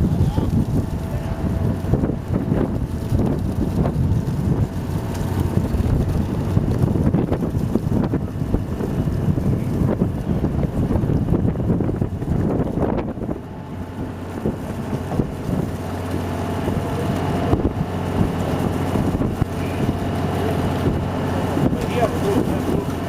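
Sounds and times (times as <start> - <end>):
boat engine humming: 0.0 - 23.0
wind buffeting microphone: 0.0 - 23.0.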